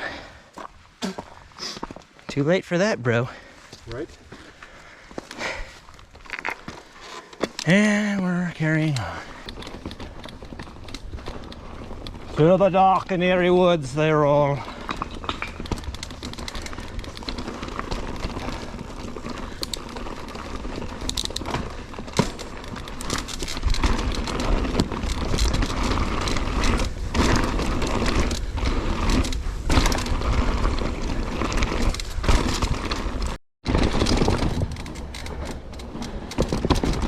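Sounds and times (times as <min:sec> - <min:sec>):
bike tyres on dirt: 0:00.0 - 0:37.0
bike clicks and rattles: 0:04.3 - 0:37.0.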